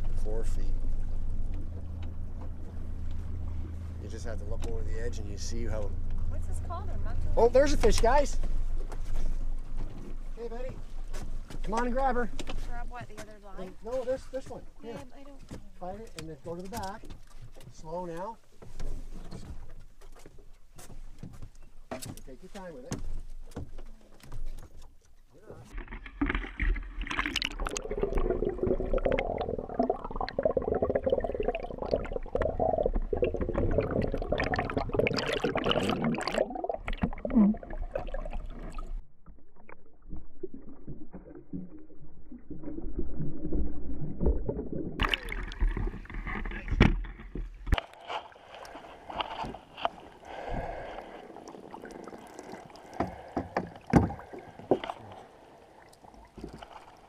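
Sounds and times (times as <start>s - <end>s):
water sloshing and gurgling: 0.0s - 57.0s.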